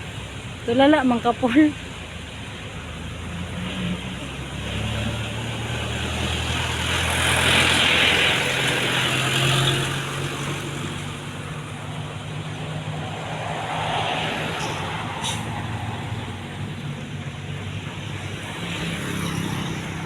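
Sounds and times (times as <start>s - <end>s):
truck engines running: 0.0s - 20.0s
vehicle passing close: 3.3s - 20.0s.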